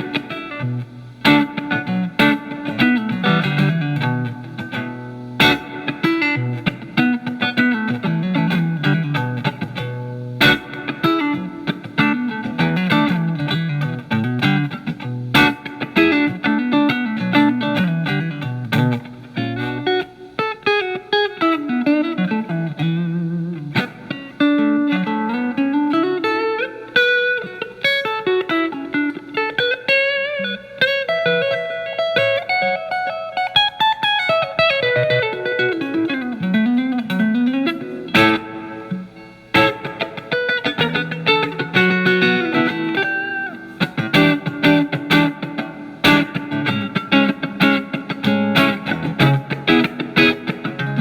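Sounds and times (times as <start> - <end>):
electric guitar lead and strums: 0.0 - 51.0.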